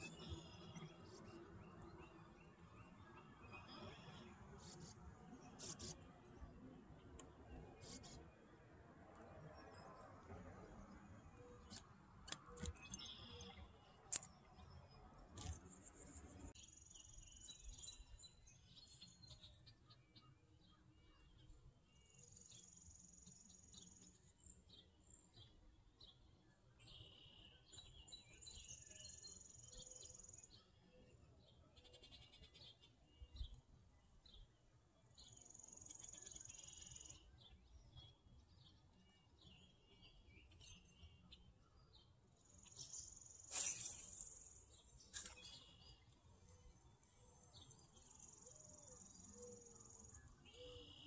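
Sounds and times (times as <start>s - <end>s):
faint birds chirping: 0.0s - 51.0s.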